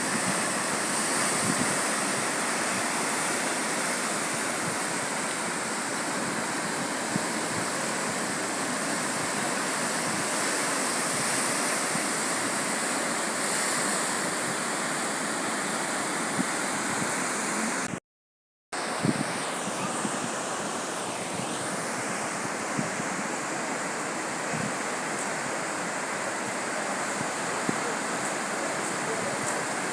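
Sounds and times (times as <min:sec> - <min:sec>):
sea surf washing on shore: 0:00.0 - 0:18.0, 0:18.8 - 0:29.9.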